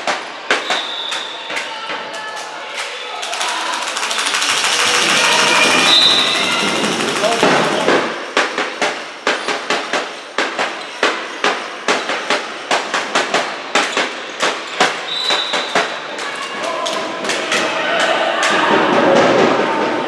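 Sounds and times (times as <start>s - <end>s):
sharp knocks echoing in a hall: 0.0s - 20.0s.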